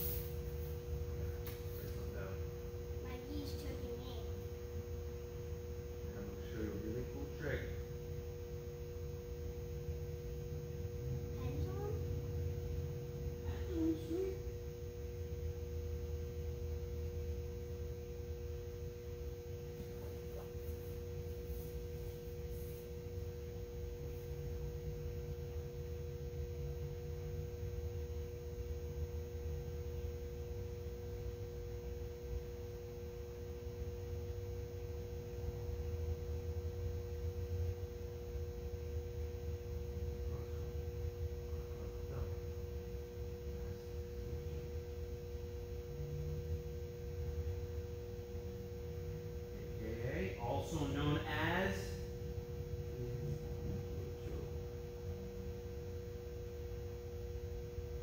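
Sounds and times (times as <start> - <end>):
steady two-tone hum: 0.0 - 58.0.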